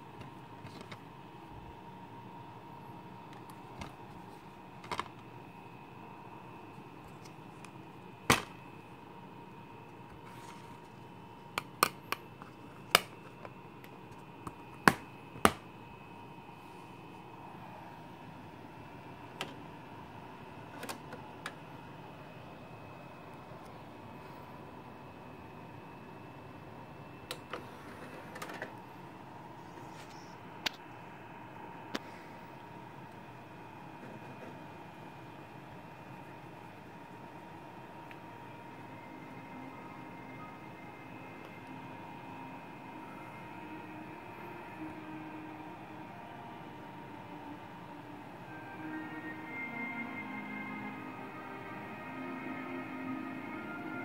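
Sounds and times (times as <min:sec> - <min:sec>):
faint hiss and high hum: 0:00.0 - 0:54.0.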